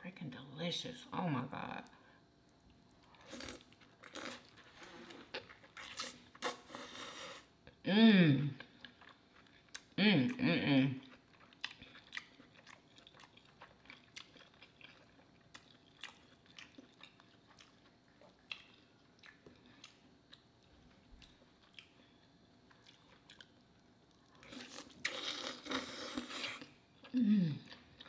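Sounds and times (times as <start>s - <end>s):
person chewing: 2.5s - 7.5s, 8.6s - 10.0s, 11.0s - 28.0s.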